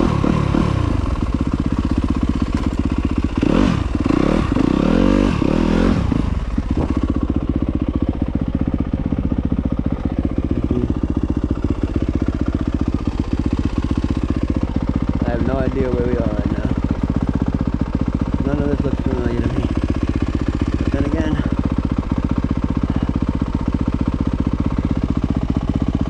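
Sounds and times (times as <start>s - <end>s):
motorcycle engine revving and idling: 0.0s - 26.0s.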